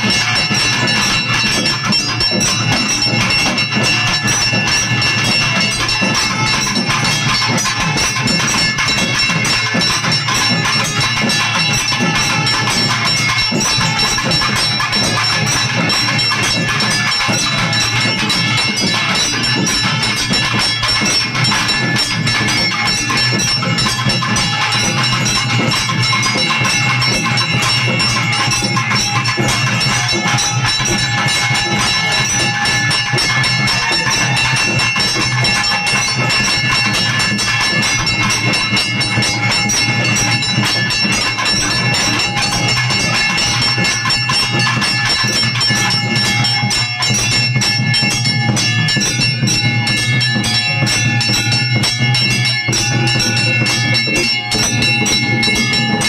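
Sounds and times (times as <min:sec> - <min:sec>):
temple bells ringing fast: 0:00.0 - 0:56.0.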